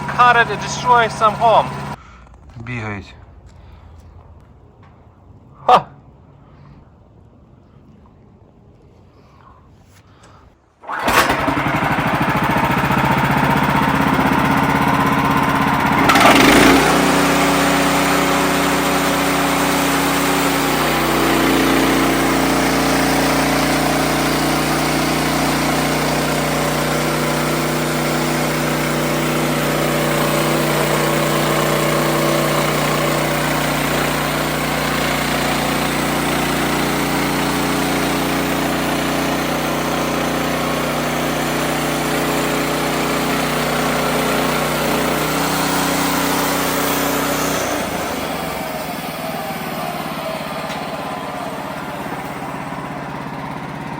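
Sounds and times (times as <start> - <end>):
sawmill running: 0.0 - 2.0, 10.8 - 53.9.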